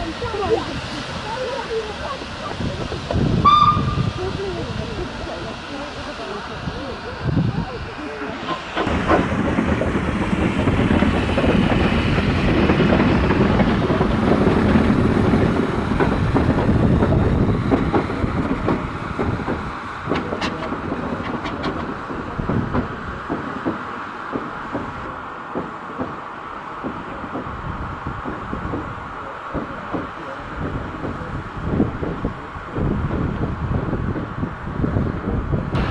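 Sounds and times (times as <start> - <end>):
train wheels clattering on rails: 0.0 - 7.0, 8.4 - 35.9.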